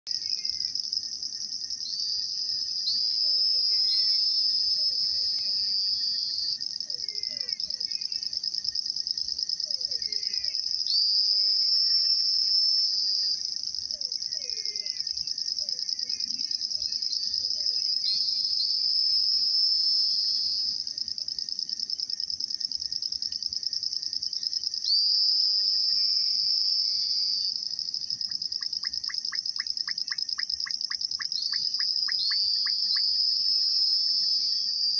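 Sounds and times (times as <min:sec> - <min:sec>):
insect chorus trilling: 0:00.1 - 0:34.9
short insect chirps: 0:00.1 - 0:34.9.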